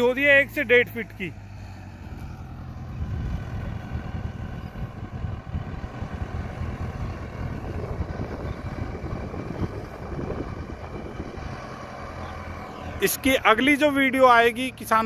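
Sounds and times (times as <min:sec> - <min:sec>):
rotavator churning rumble: 0:00.0 - 0:15.0
tractor diesel engine under load: 0:00.0 - 0:15.0.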